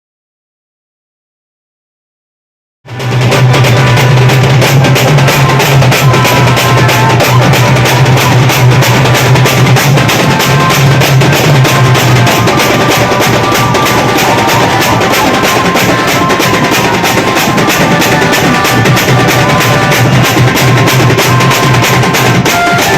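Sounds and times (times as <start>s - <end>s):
fast dense drumming: 2.9s - 22.9s
melody: 3.6s - 22.9s.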